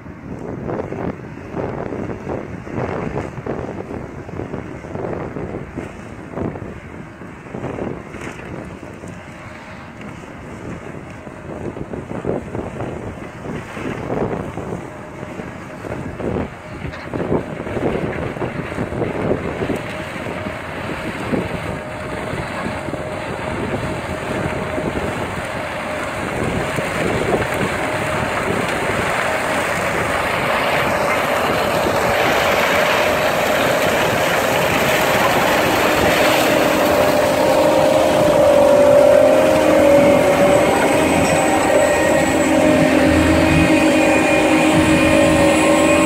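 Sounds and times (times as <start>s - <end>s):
harvester engine and machinery: 0.0s - 46.0s
wind buffeting microphone: 0.0s - 46.0s
steady machine whine: 9.0s - 46.0s.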